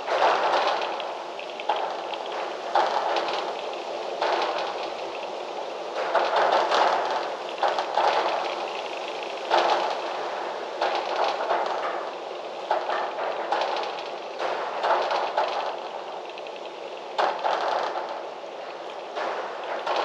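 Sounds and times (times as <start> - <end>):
gusty wind shaking foliage: 0.0 - 20.0
clicking and rattling: 0.1 - 20.0.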